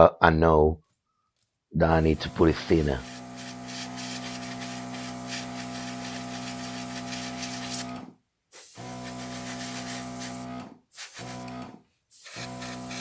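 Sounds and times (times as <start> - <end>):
airbrush spraying hiss: 1.9 - 13.0
compressor motor humming: 1.9 - 13.0.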